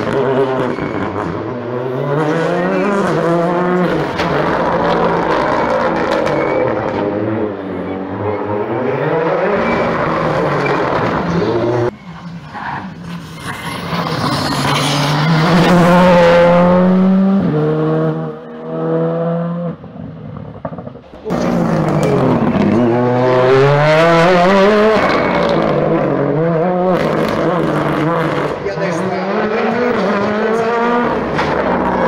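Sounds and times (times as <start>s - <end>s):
rally car engine shifting gears: 0.0s - 11.9s, 13.8s - 32.0s
rally car engine revving: 0.0s - 32.0s.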